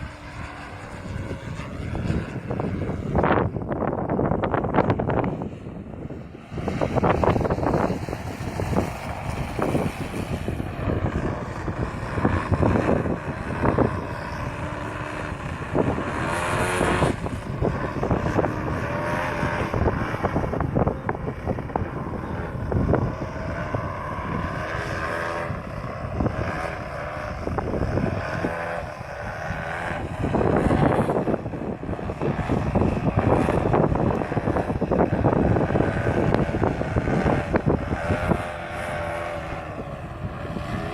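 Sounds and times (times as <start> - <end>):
model plane engine revving: 0.0 - 40.9.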